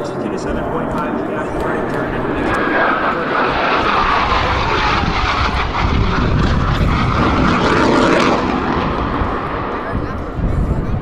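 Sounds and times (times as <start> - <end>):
falling jet whine: 0.0 - 11.0
jet flying past: 0.0 - 11.0.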